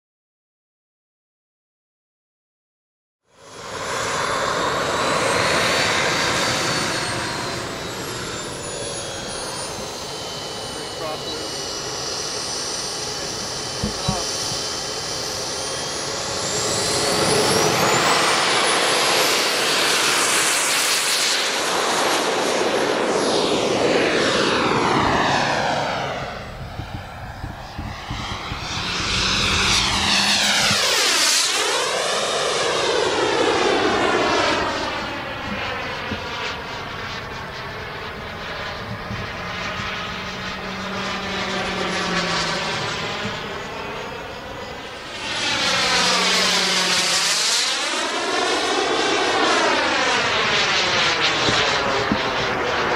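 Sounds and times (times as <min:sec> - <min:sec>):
small jet turbine whine: 0:03.2 - 0:52.9.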